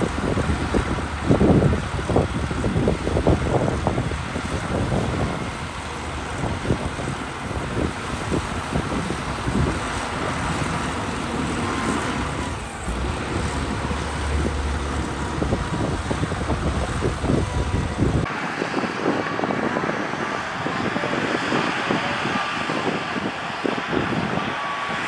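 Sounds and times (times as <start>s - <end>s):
bulldozer diesel engine rumbling: 0.0s - 25.0s
distant bulldozer working: 0.0s - 25.0s.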